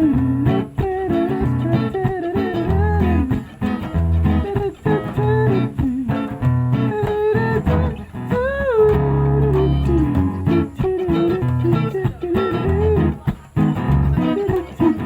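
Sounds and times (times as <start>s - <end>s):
guitar melody bending in pitch: 0.0s - 15.0s
held bass notes: 0.0s - 15.0s.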